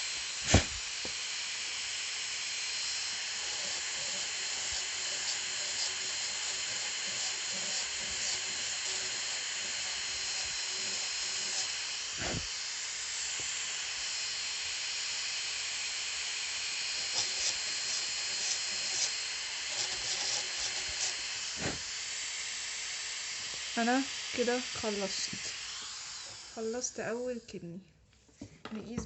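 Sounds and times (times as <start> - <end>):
dental drill hissing and whining: 0.0 - 27.6.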